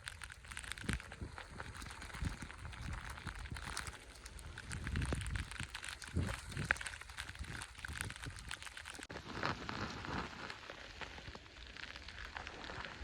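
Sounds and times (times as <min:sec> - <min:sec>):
ice pellets pattering: 0:00.0 - 0:13.0.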